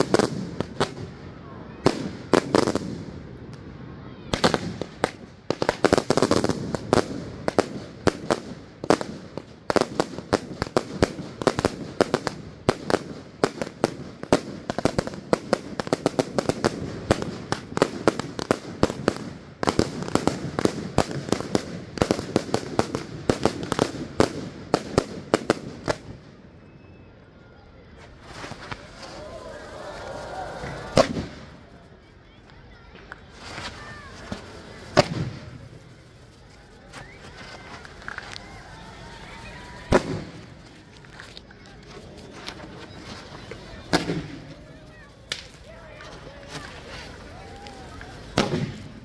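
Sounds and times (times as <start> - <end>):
fireworks crackling: 0.0 - 26.7, 28.0 - 49.0
fireworks popping and banging: 4.3 - 26.2, 30.4 - 49.0.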